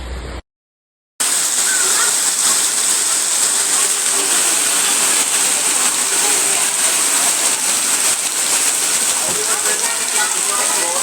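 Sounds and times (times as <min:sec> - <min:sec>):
floodwater rushing: 0:01.2 - 0:11.0
faint voices: 0:01.5 - 0:11.0.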